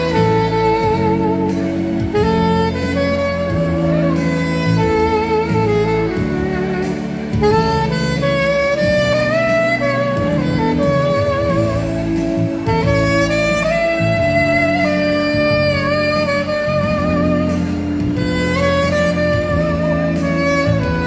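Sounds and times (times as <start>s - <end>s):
saxophone slow melody: 0.0s - 21.0s
sustained chords and bass: 0.0s - 21.0s.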